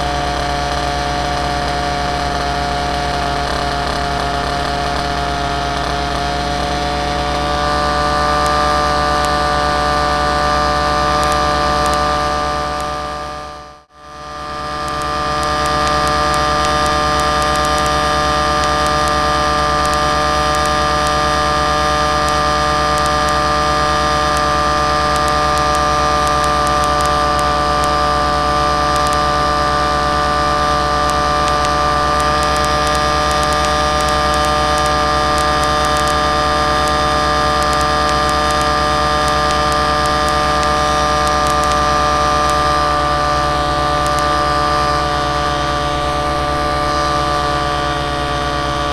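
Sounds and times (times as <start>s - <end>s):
aircraft motor drone: 0.0s - 48.9s.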